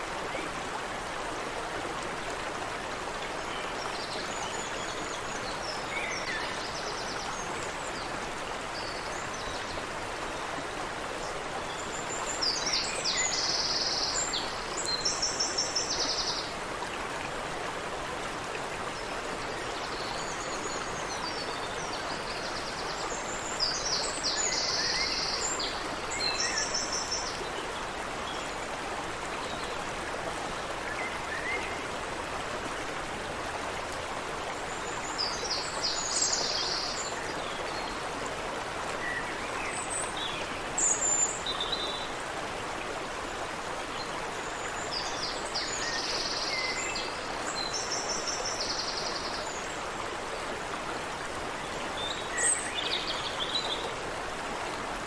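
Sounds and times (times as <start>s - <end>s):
creek water over cascade: 0.0s - 55.0s.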